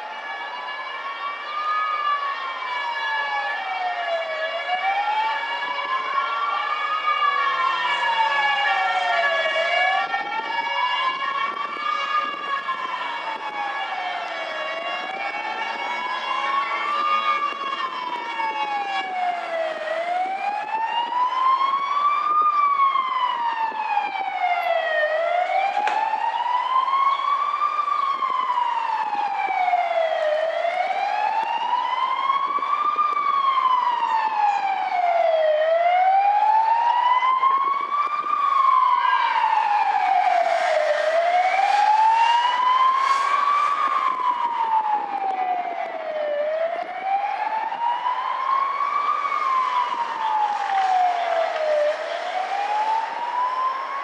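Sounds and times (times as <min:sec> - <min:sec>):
fire engine siren wailing: 0:00.0 - 0:54.0.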